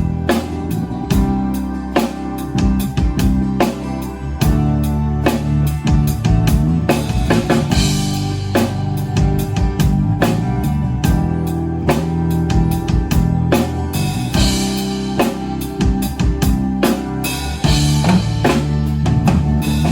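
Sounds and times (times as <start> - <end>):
drum kit beat: 0.0 - 19.9
low bass notes: 0.0 - 19.9
sustained guitar: 0.0 - 19.9.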